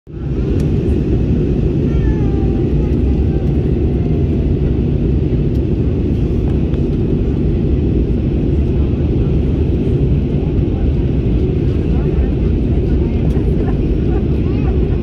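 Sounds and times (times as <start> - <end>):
jet cabin engine rumble: 0.1 - 15.0.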